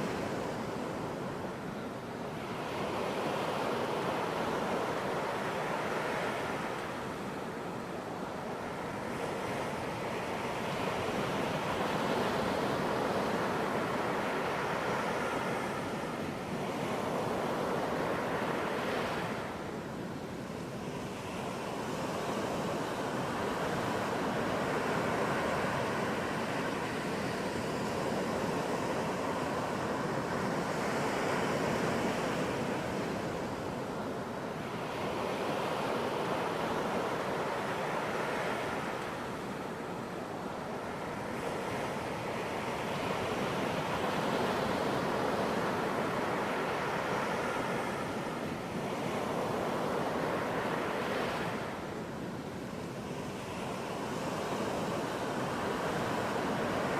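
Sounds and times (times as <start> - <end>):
waves breaking on beach: 0.0 - 56.9.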